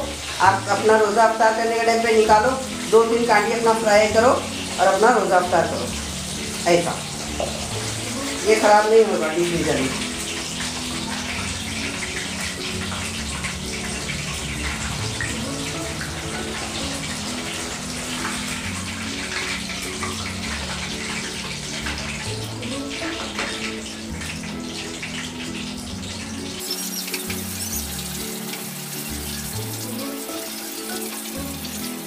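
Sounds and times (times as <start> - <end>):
food sizzling in hot oil: 0.0 - 32.0
soft background music: 0.0 - 32.0.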